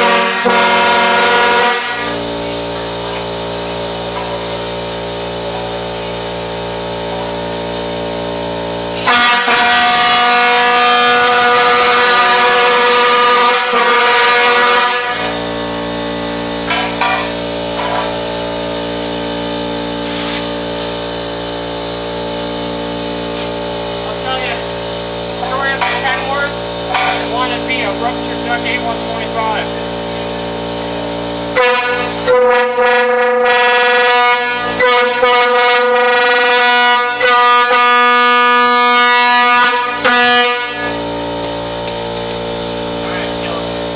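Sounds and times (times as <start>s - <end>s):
air horn chord: 0.0s - 41.8s
steady machine hum: 0.0s - 43.9s.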